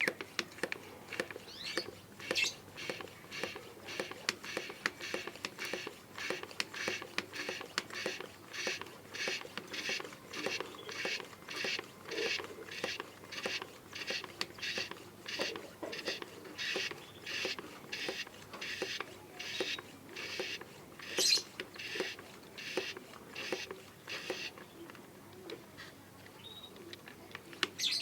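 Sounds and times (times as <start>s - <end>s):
spray bottle hand pump strokes: 0.0s - 24.8s.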